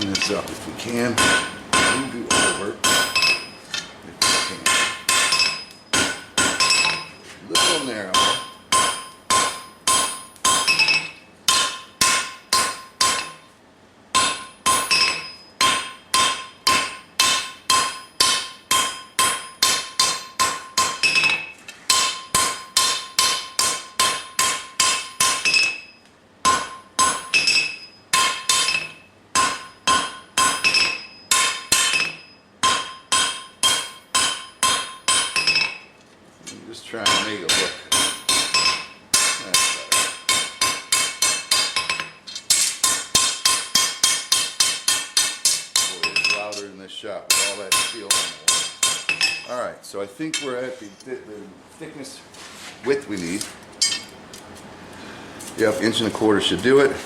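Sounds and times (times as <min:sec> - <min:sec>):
hammer striking steel on anvil: 0:01.0 - 0:03.6, 0:04.2 - 0:13.5, 0:14.1 - 0:35.9, 0:37.0 - 0:46.7, 0:47.3 - 0:49.5, 0:50.3 - 0:51.1, 0:53.8 - 0:54.2.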